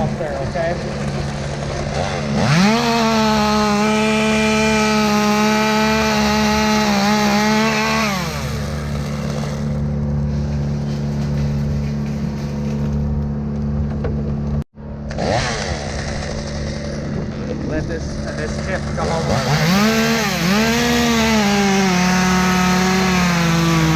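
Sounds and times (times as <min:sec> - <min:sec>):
chainsaw revving and cutting: 0:00.0 - 0:12.3, 0:15.1 - 0:23.9
truck engine drone: 0:00.0 - 0:23.9.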